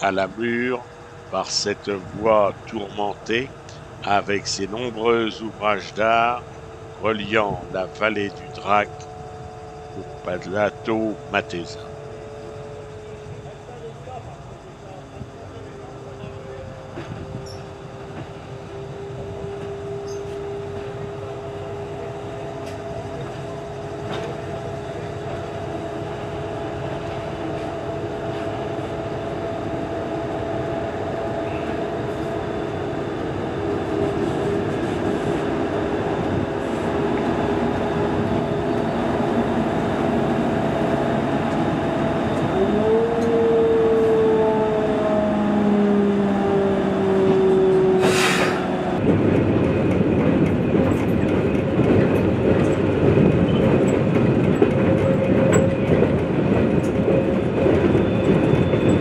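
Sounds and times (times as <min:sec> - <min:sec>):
electric locomotive whine: 0:00.0 - 0:59.0
train rumbling on track: 0:00.0 - 0:59.0.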